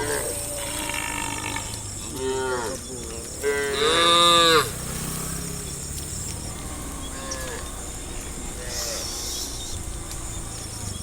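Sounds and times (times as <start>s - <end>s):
cows mooing: 0.0s - 5.7s, 6.4s - 10.8s.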